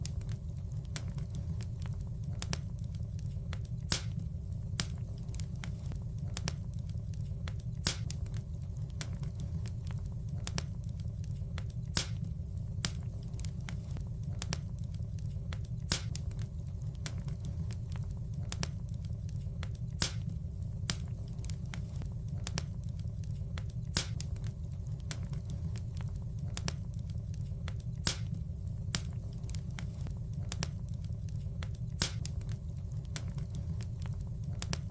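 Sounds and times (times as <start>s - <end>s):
fire crackling and popping: 0.0s - 34.9s
low rumble of burning fire: 0.0s - 34.9s.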